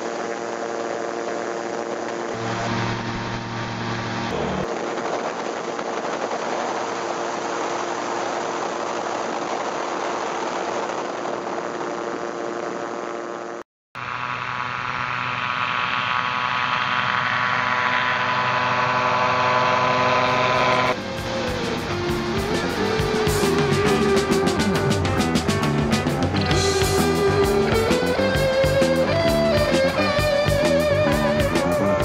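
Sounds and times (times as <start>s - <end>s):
aircraft engine and propeller: 0.0s - 32.0s
distant aircraft engine drone: 0.0s - 32.0s.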